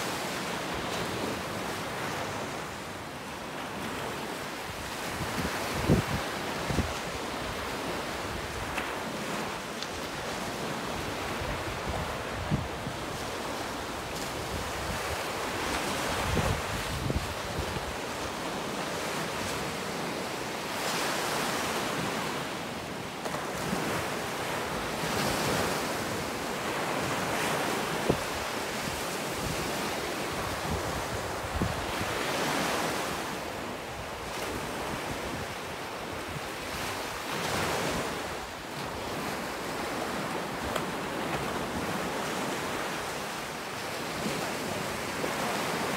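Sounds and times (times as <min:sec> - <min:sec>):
ocean surf breaking on beach: 0:00.0 - 0:45.9
wind gusts on microphone: 0:03.6 - 0:22.4, 0:23.6 - 0:45.9.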